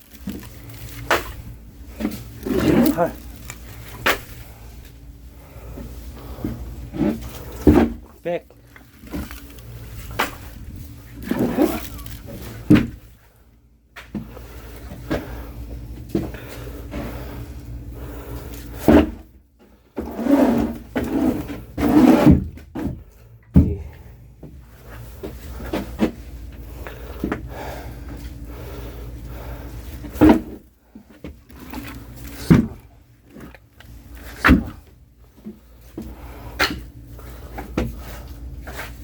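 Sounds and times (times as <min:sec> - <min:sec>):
rustling and scraping: 0:00.0 - 0:13.4, 0:14.1 - 0:39.0.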